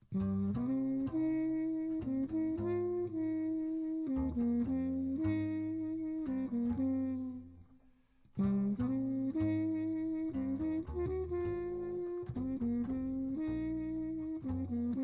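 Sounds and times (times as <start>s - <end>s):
jazz bass line: 0.0s - 7.7s, 8.3s - 15.0s
horn playing slow melody: 0.2s - 7.7s, 8.4s - 15.0s.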